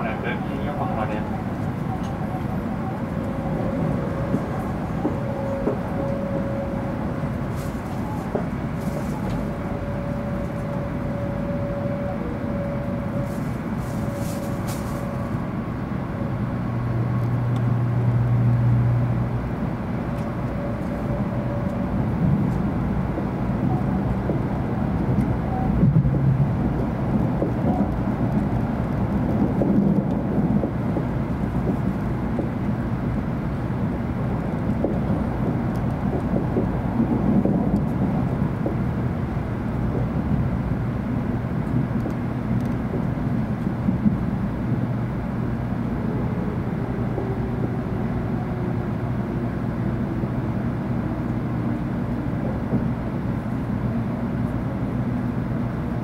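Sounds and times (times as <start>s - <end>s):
train interior rumble: 0.0s - 56.0s.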